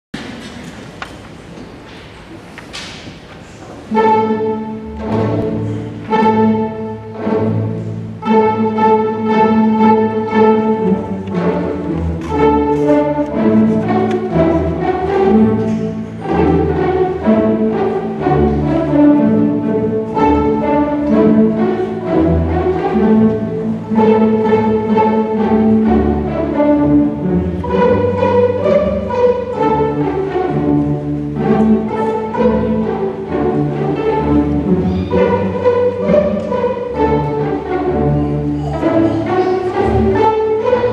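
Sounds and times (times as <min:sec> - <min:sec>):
string orchestra playing: 0:03.4 - 0:40.9.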